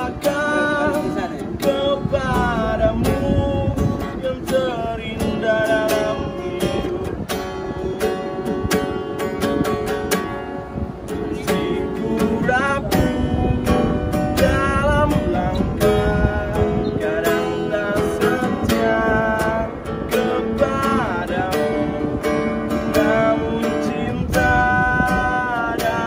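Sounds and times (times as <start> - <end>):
man singing: 0.0 - 8.2, 11.1 - 26.0
acoustic guitar strumming: 0.0 - 26.0.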